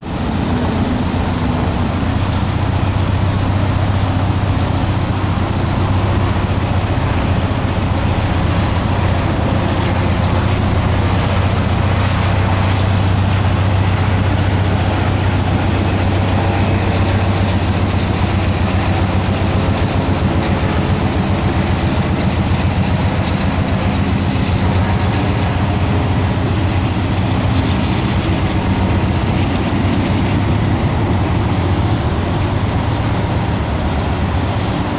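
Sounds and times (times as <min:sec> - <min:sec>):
diesel locomotive engines droning: 0:00.0 - 0:34.9
freight train rumbling: 0:00.0 - 0:34.9.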